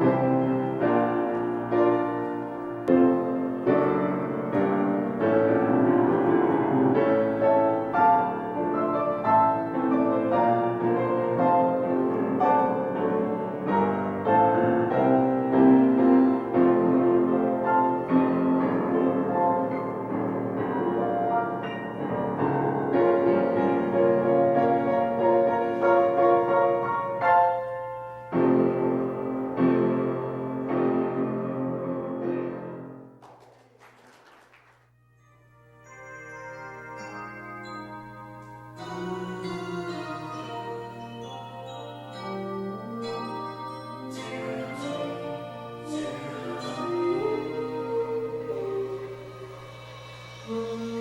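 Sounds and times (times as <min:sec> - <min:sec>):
piano music: 0:00.0 - 0:33.4, 0:34.8 - 0:51.0.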